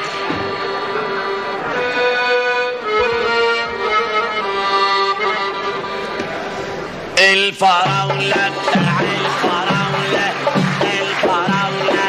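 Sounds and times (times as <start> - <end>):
instrumental band music: 0.2 - 6.7, 7.8 - 12.0.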